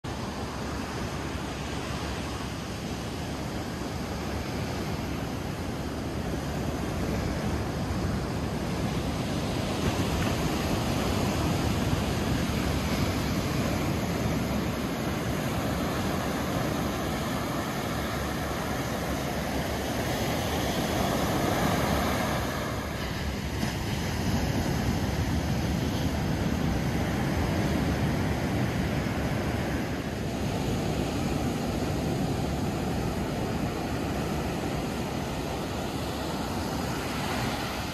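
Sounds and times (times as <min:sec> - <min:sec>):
waves washing up a sandy beach: 0:00.1 - 0:37.9
wind rumbling on microphone: 0:00.1 - 0:37.9.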